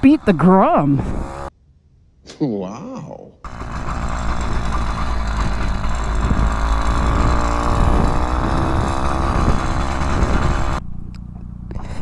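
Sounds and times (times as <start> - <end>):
small two-stroke engine running: 0.0 - 1.5, 3.5 - 12.0.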